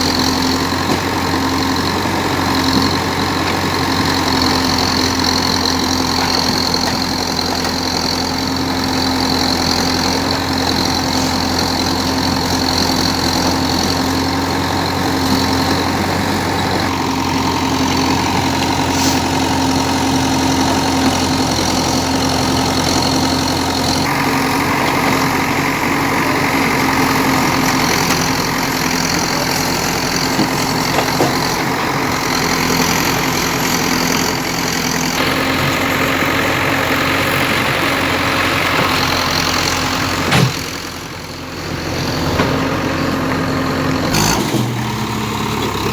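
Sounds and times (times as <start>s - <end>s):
digger diesel engine running: 0.0s - 45.9s.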